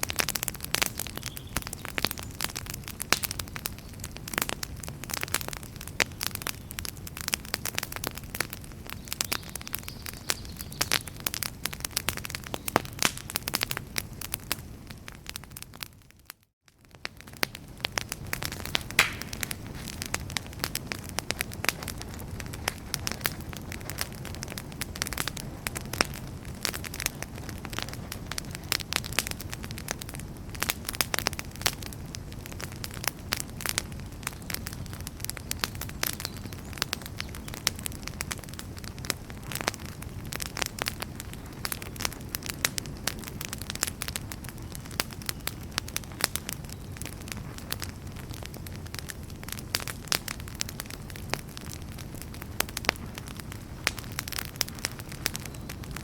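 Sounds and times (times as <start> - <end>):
campfire crackling and popping: 0.0 - 56.0
low rumble of burning: 0.0 - 56.0.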